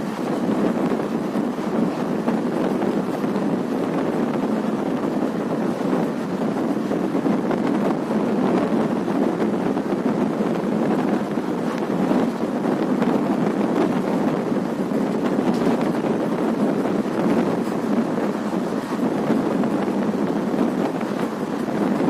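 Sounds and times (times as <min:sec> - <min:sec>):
train rushing at speed: 0:00.0 - 0:22.0
wind buffeting microphone: 0:00.0 - 0:22.0.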